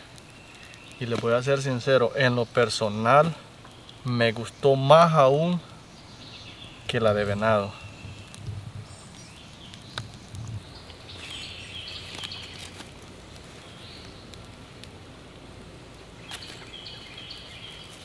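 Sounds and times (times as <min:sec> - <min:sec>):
birds chirping: 0:00.0 - 0:14.6, 0:15.6 - 0:18.0
steady outdoor hiss: 0:00.0 - 0:18.0.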